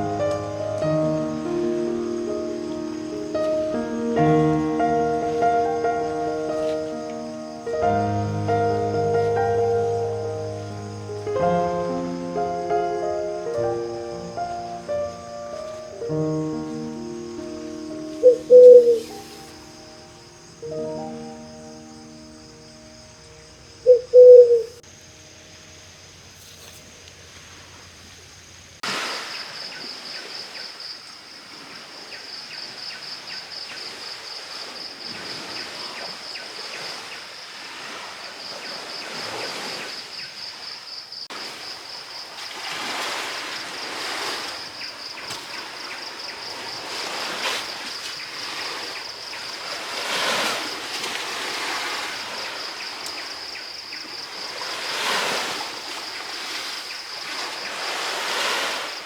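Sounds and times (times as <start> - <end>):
sea waves breaking on shore: 0.0 - 20.2, 28.8 - 59.0
high-pitched insect trill: 0.0 - 28.6, 38.3 - 59.0.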